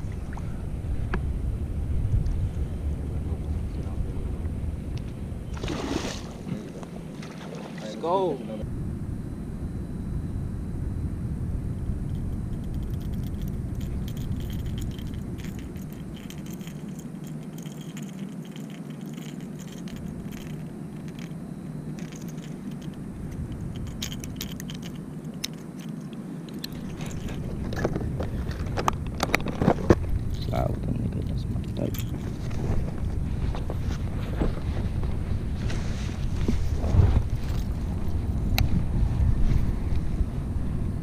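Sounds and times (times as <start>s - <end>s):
wind noise on microphone: 0.0s - 7.2s, 8.6s - 26.0s, 26.6s - 41.0s.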